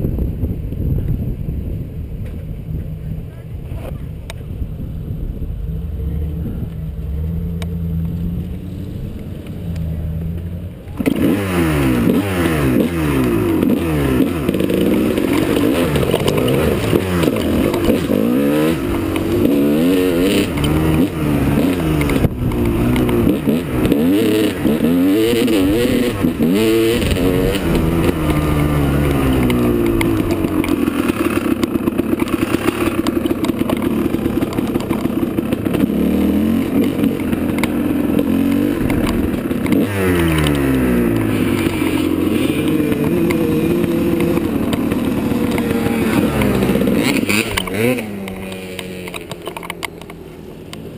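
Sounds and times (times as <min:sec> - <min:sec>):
dirt bike engine revving: 0:05.2 - 0:50.9.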